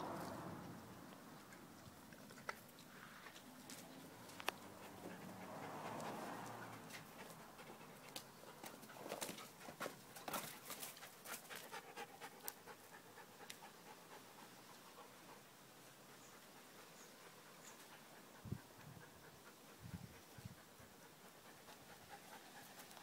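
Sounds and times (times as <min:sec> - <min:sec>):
dogs panting: 0:01.4 - 0:23.0.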